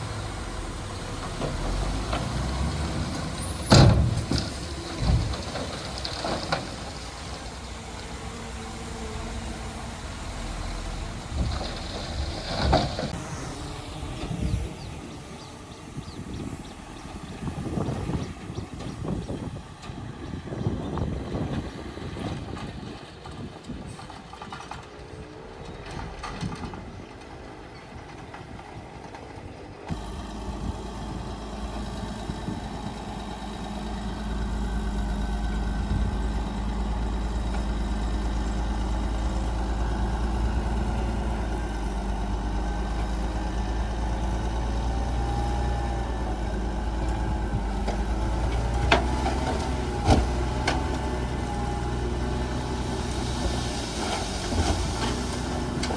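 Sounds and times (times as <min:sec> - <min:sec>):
bulldozer diesel engine droning: 0:00.0 - 0:55.9.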